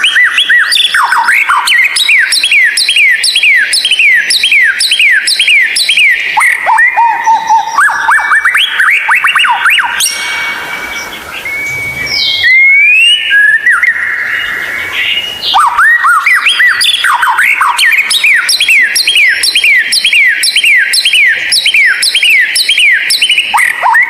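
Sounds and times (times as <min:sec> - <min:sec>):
bird singing whistles: 0:00.0 - 0:24.0.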